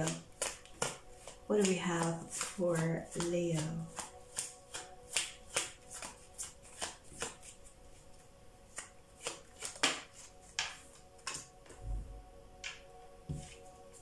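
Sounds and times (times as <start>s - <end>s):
cards being shuffled: 0.0s - 11.8s, 12.6s - 14.0s.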